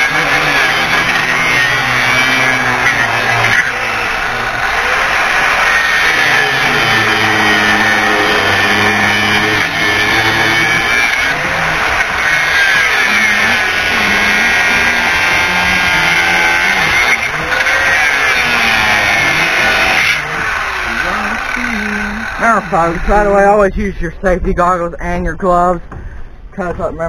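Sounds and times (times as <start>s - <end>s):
angle grinder cutting wood: 0.0s - 24.2s.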